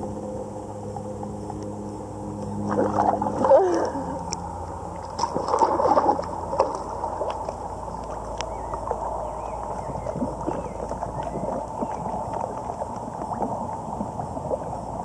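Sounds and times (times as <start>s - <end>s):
muffled underwater sloshing and bubbling: 0.0s - 15.0s
underwater splashing: 2.3s - 15.0s.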